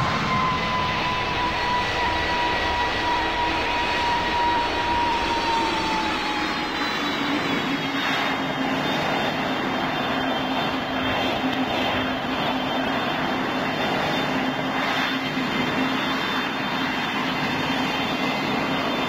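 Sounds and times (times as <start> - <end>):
jet engines roaring: 0.0 - 19.0
thin whine: 0.0 - 19.0.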